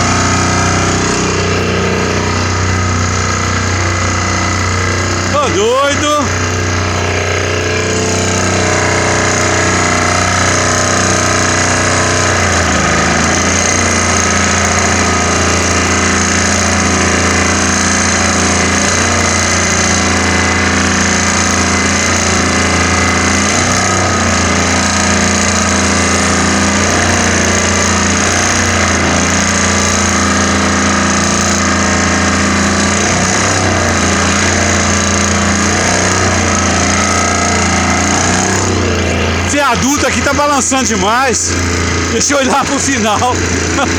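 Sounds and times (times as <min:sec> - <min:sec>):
vibratory pile driver drone: 0:00.0 - 0:43.9.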